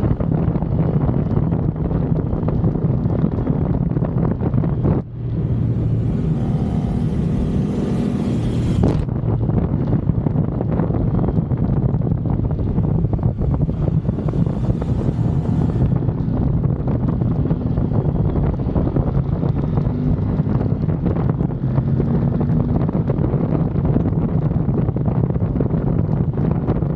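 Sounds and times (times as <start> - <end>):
motorcycle engine running: 0.0 - 26.6
wind buffeting microphone: 0.0 - 26.9.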